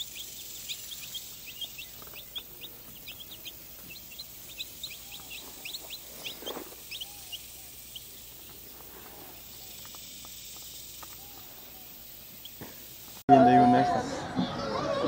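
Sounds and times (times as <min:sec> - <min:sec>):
chicks peeping: 0:00.0 - 0:13.2.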